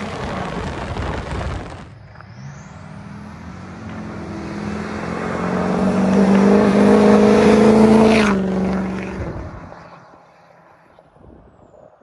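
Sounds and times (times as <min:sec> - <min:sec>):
diesel pickup accelerating past: 0:00.2 - 0:10.8.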